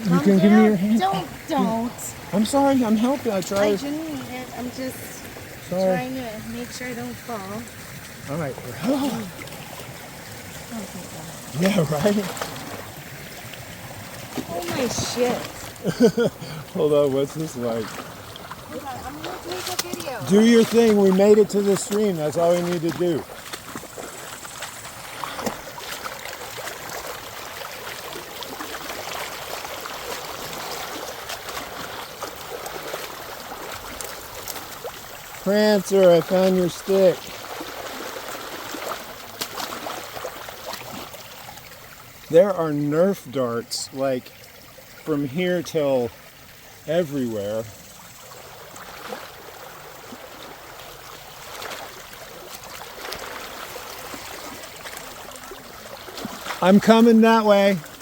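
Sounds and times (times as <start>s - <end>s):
creek water flowing: 0.0s - 58.0s.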